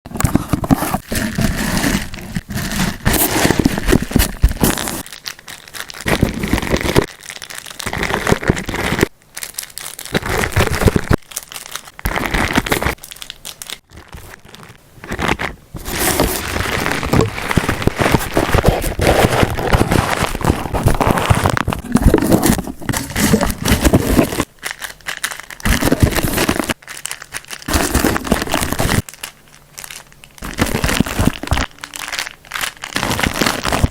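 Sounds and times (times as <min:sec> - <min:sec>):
packaging crinkling and rustling: 0:00.1 - 0:33.9.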